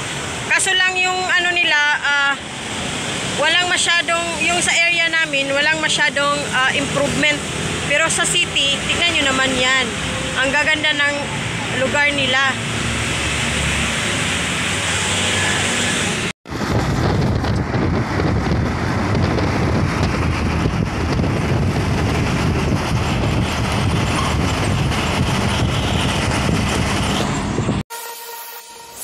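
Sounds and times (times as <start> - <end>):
car engine and road noise: 0.0 - 27.9
street traffic: 0.0 - 29.0.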